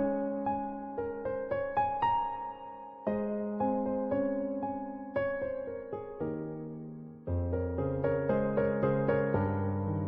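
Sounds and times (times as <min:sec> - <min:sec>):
slow gentle piano melody: 0:00.0 - 0:10.0.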